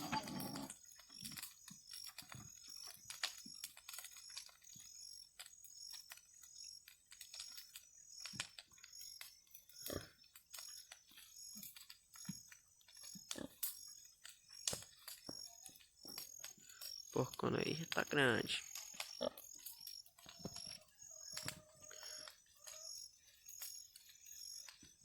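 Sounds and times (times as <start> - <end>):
faint clicking and crackling: 0.0 - 25.0.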